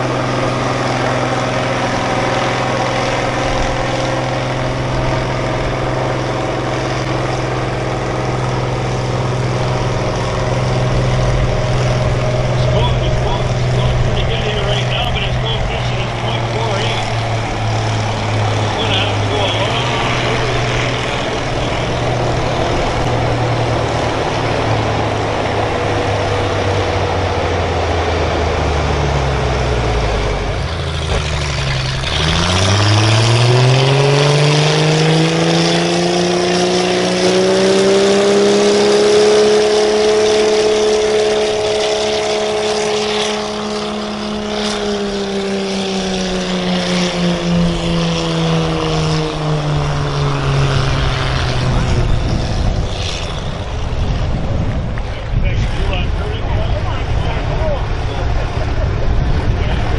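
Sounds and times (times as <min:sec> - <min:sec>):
vehicle engine revving under load: 0:00.0 - 0:59.9.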